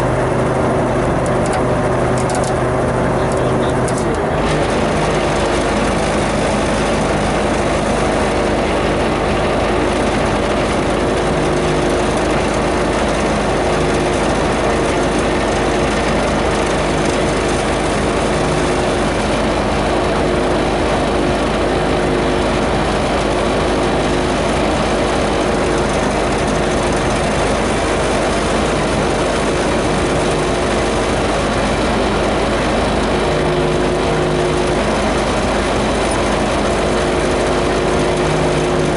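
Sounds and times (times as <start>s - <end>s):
vehicle engine running steadily: 0.0s - 38.9s.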